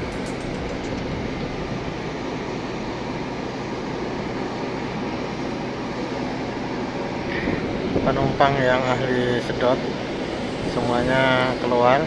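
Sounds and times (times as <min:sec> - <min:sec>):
idling train low hum: 0:00.0 - 0:12.0.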